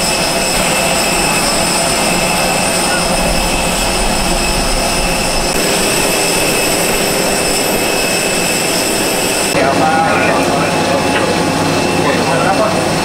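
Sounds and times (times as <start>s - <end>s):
crowd voices: 0.0s - 13.0s
jet turbines whining: 0.0s - 13.0s.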